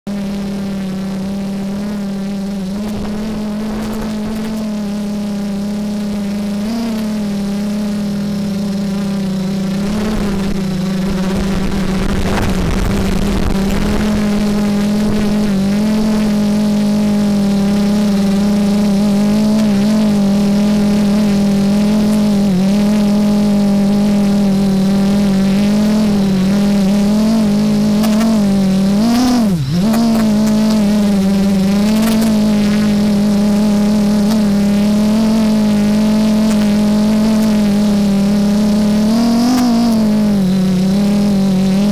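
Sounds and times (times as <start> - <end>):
drone propellers humming: 0.0 - 41.9.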